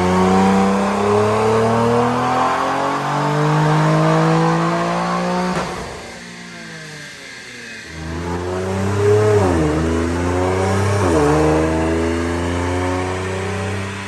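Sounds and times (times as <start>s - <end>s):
car engine revving on dyno: 0.0s - 14.0s.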